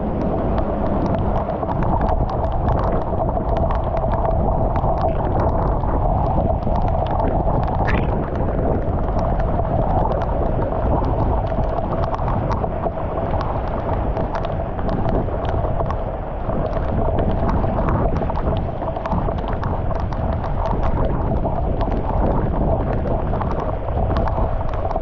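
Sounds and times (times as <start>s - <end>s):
water rushing into storm drain: 0.0s - 25.0s
light clicks and taps: 0.1s - 25.0s.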